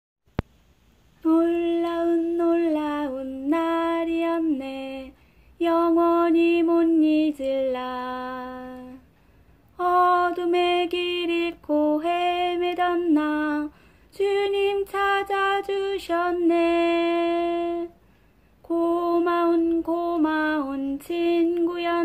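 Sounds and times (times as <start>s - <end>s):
woman singing a hymn: 1.2s - 9.1s, 9.7s - 18.0s, 18.6s - 22.0s.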